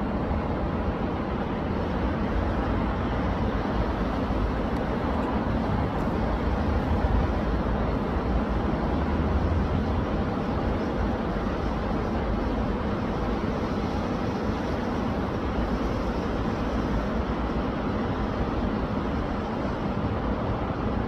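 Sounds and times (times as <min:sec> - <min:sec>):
stream rushing with low rumble: 0:00.0 - 0:21.0.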